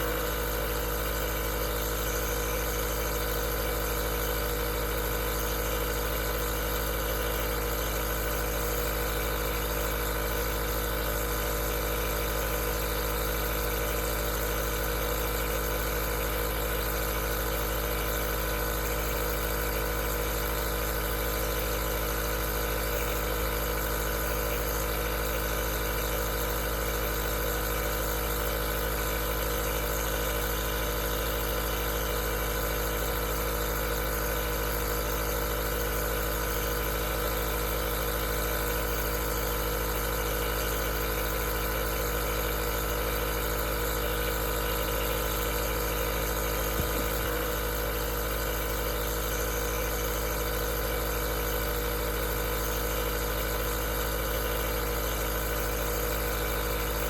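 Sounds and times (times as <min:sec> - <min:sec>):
nebulizer humming and hissing: 0:00.0 - 0:57.0.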